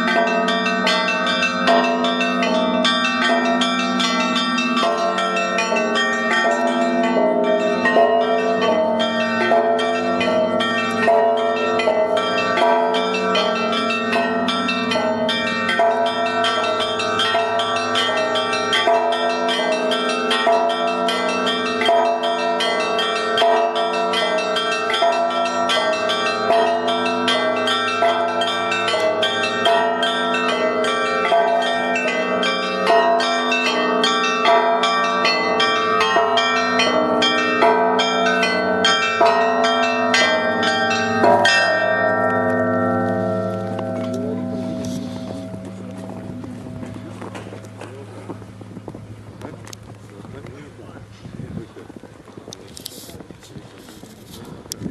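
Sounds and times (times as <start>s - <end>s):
church bells pealing: 0.0s - 54.9s.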